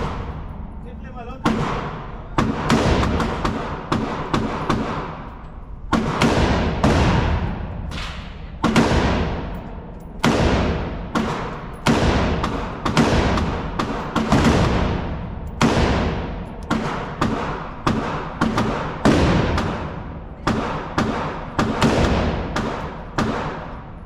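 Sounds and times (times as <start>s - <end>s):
gunshots echoing indoors: 0.0s - 24.0s.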